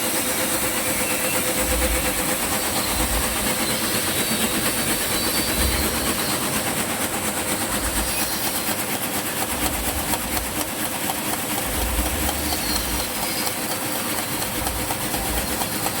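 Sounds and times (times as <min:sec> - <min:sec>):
motor drone: 0:00.0 - 0:16.0
bamboo sticks rattling: 0:01.8 - 0:16.0.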